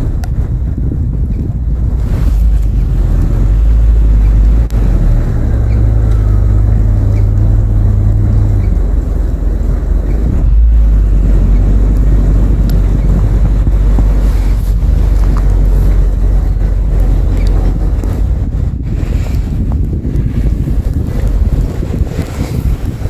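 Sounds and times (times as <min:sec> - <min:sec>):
vehicle engine running: 0:00.0 - 0:23.0
wind rumble on microphone: 0:00.0 - 0:23.0.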